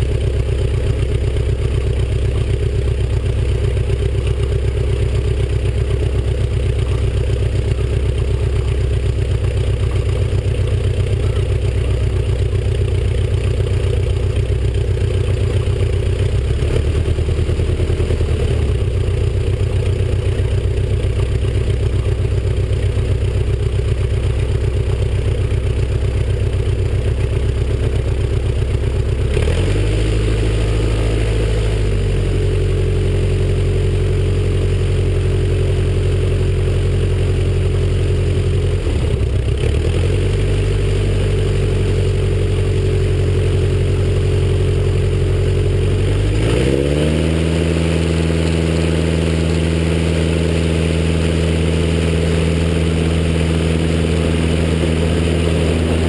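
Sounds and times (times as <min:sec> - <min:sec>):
biplane engine and propeller running: 0:00.0 - 0:56.0.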